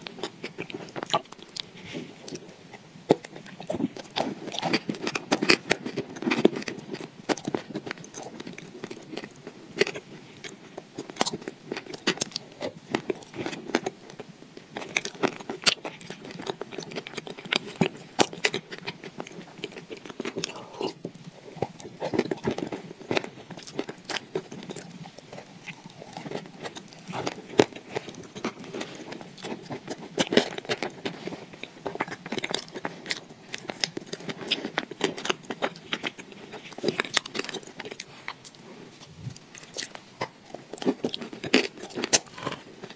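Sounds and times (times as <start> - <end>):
wet mouth eating sounds: 0.0 - 42.9.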